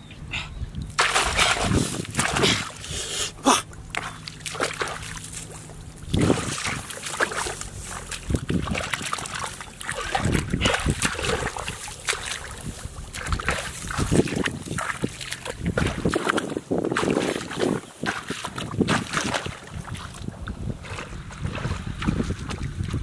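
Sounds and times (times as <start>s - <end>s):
muddy water splashing: 0.1s - 23.0s
feet wading in water: 0.4s - 23.0s
hands digging through mud: 0.9s - 20.1s.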